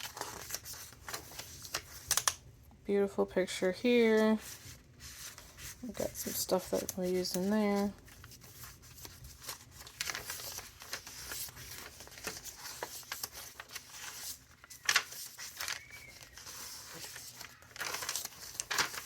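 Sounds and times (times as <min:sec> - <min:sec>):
paper pages rustling: 0:00.0 - 0:02.4, 0:04.0 - 0:19.0.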